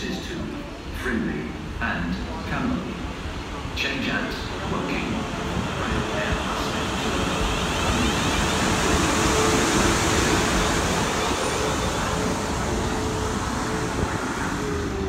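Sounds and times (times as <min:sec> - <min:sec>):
train equipment hum and hiss: 0:00.0 - 0:15.0.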